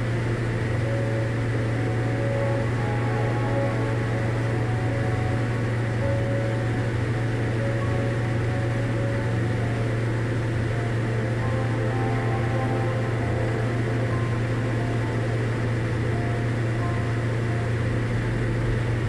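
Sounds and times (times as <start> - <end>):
aircraft engine hum in cabin: 0.0 - 19.0.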